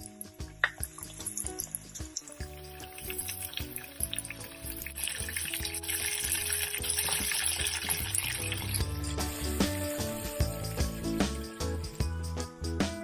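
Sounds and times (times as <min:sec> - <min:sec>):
chicken deep-frying in oil: 0:00.0 - 0:10.4
background music: 0:00.0 - 0:13.0.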